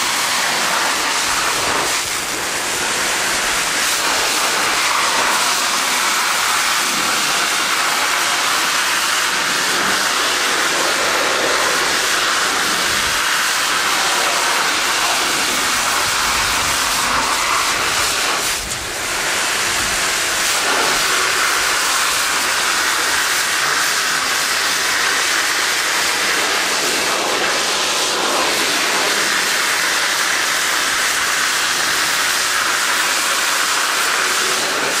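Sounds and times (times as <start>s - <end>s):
high-pressure water jet hissing: 0.0s - 35.0s.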